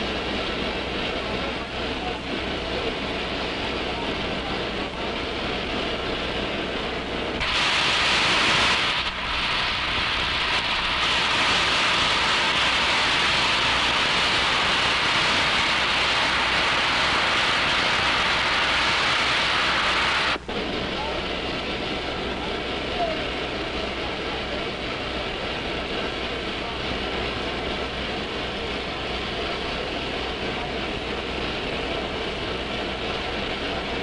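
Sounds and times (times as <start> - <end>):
steam locomotive blowing off steam: 0.0 - 34.0.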